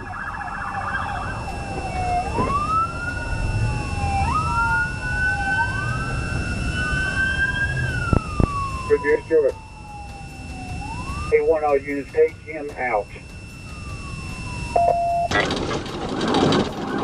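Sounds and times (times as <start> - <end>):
moving vehicle rumble: 0.0 - 17.0
police siren yelp and wail: 0.0 - 17.0.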